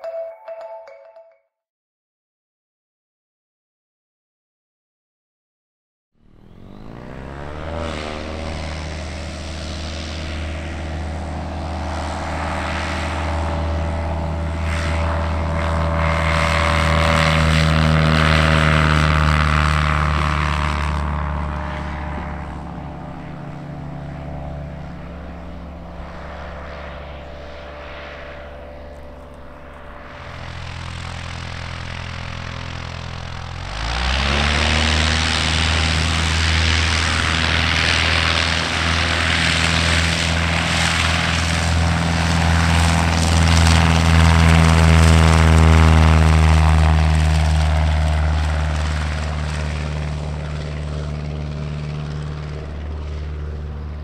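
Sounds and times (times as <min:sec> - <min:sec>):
light plane engine drone: 0:06.2 - 0:54.0.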